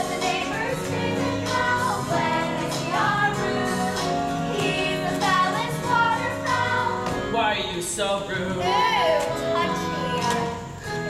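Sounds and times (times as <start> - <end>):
voices singing: 0.0 - 11.0.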